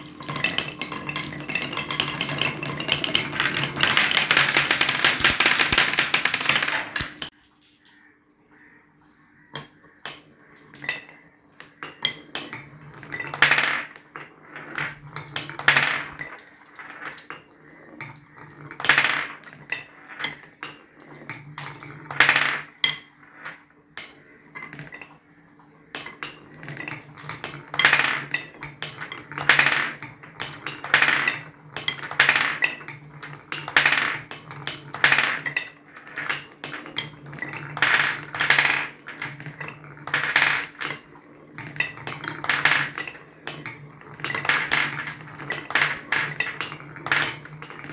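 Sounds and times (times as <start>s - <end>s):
marbles clicking and knocking: 0.0s - 8.2s, 9.4s - 47.9s
marbles rolling on wooden track: 0.0s - 8.8s, 9.4s - 47.9s.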